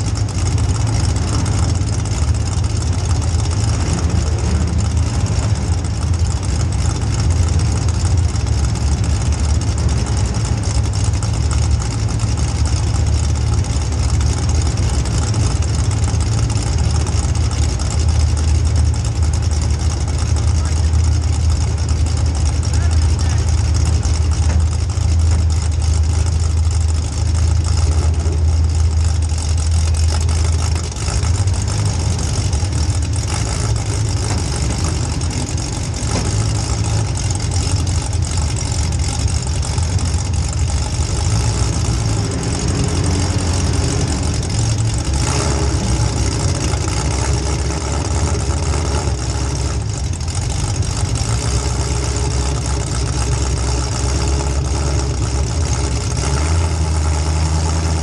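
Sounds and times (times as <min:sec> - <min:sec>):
car engine idling loudly: 0:00.0 - 0:58.0.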